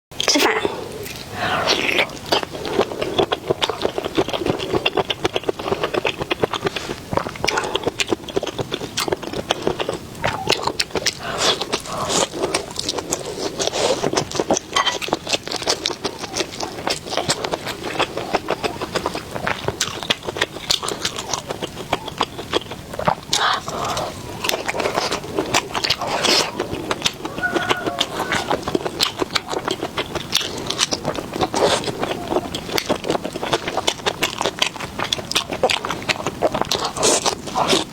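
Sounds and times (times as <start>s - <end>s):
chewing and biting food: 0.2s - 37.9s.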